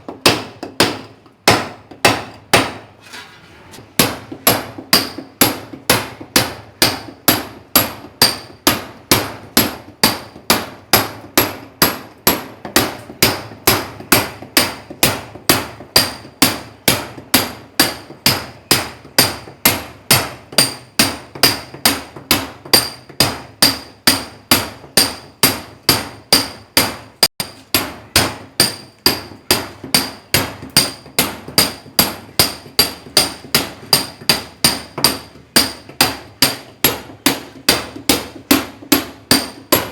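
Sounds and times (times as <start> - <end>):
hammer striking steel chisel: 0.0 - 3.0, 3.8 - 39.9.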